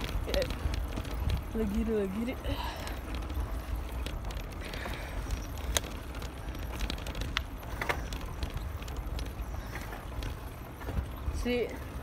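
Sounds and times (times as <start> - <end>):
bike rattling clicks: 0.0 - 12.0
wind and road rumble on microphone: 0.0 - 12.0.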